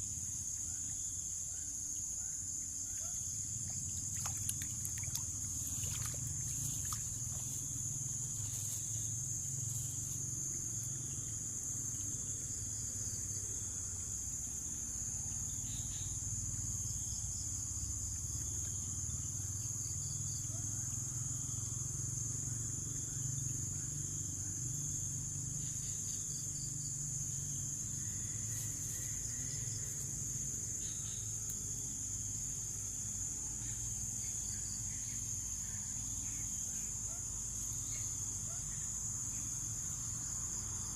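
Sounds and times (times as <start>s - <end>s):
shrill insect chorus: 0.0s - 40.9s.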